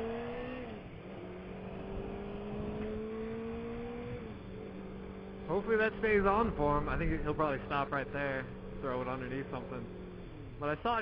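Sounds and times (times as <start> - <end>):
motorcycle engine: 0.0 - 11.0
wind and road noise: 0.0 - 11.0.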